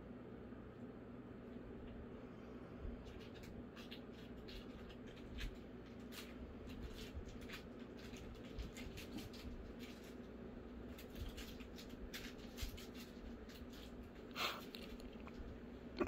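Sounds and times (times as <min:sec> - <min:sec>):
paws scratching and rustling: 0:02.7 - 0:15.6.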